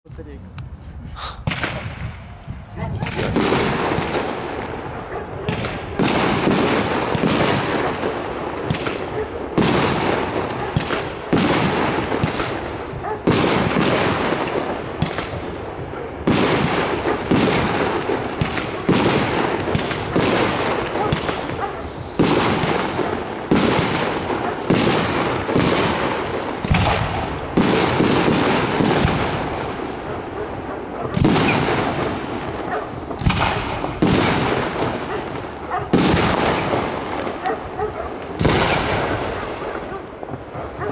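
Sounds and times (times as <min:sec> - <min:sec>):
firework shells bursting: 0:03.0 - 0:30.3, 0:31.1 - 0:40.5.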